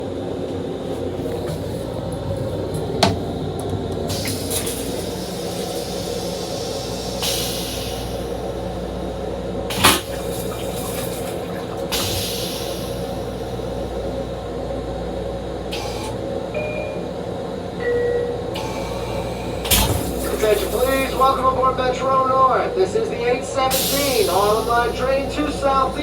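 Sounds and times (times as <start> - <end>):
railcar hum and rumble: 0.0 - 26.0
hissing rush of restroom fixtures: 0.9 - 14.6, 15.6 - 16.4, 18.6 - 26.0.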